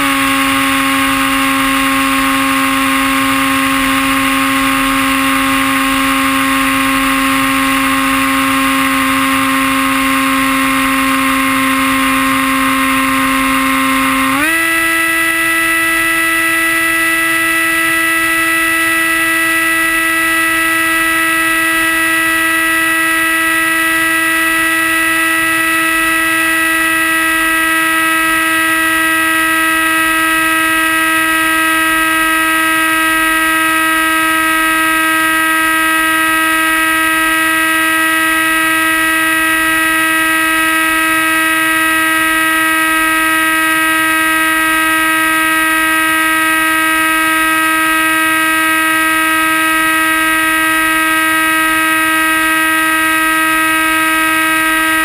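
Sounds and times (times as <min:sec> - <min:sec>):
model plane motor whining: 0:00.0 - 0:55.0.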